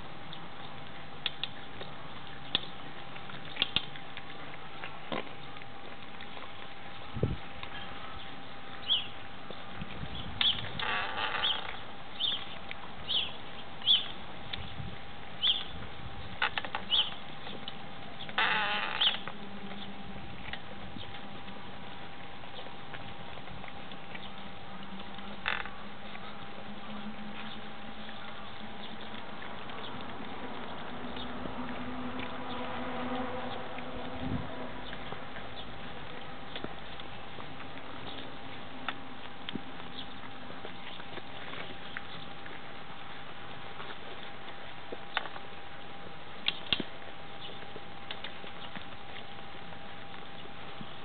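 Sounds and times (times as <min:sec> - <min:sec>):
puppies chewing and lapping: 0:00.0 - 0:51.0.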